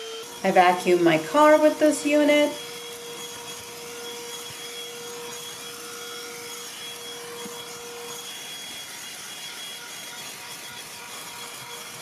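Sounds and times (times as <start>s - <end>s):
handheld vacuum running: 0.0s - 12.0s.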